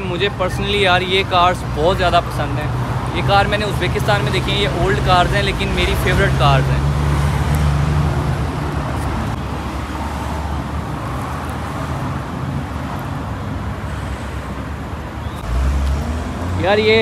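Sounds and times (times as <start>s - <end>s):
cars driving by: 0.0s - 17.0s.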